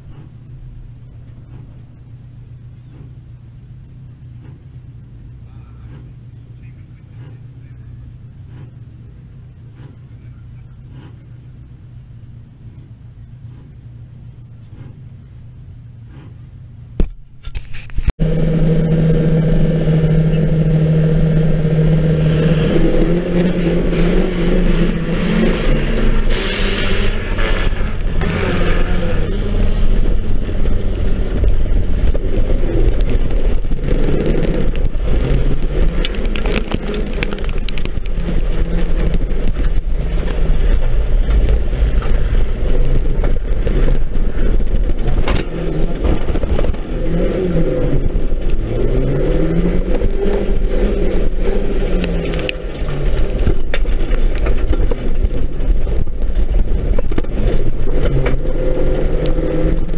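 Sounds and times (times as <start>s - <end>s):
race car engine revving: 0.0s - 17.4s, 18.1s - 59.9s
car body knocking and rattling: 0.0s - 18.1s, 23.6s - 59.9s
steady low rumble: 0.0s - 59.9s.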